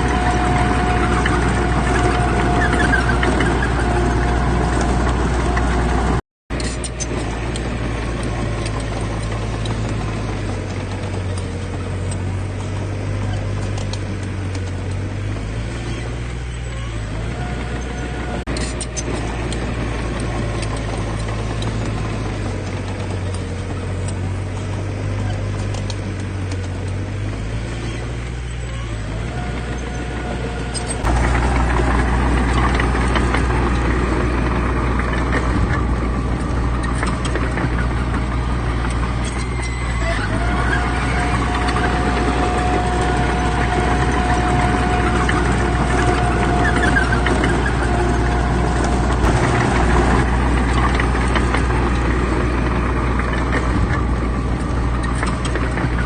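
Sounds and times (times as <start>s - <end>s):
heavy diesel engines rumbling: 0.0s - 56.0s.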